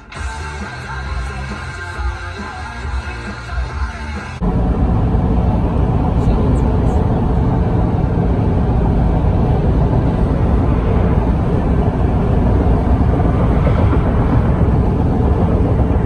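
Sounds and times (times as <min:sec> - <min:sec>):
vehicle travel noise from inside: 0:00.1 - 0:16.0.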